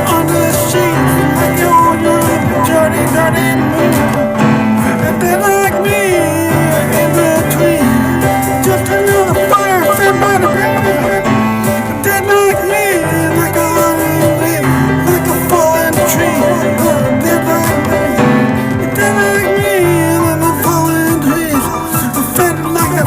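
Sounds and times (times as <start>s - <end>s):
held bass notes: 0.0s - 21.4s.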